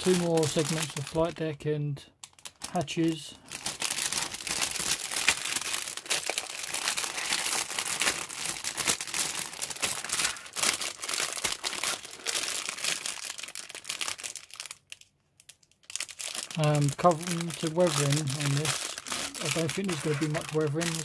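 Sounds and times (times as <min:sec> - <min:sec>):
plastic bag crinkling: 0:00.0 - 0:01.4, 0:02.2 - 0:21.0.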